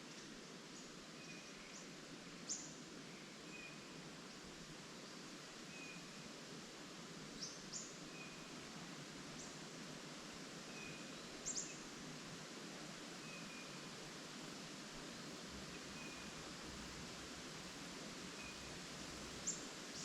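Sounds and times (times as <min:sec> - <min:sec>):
wind in leaves: 0:00.0 - 0:20.0.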